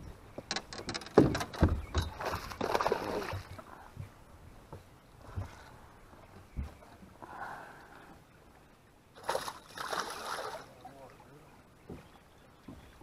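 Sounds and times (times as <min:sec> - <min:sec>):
water splashing against a boat: 0:00.5 - 0:08.2, 0:09.1 - 0:13.0.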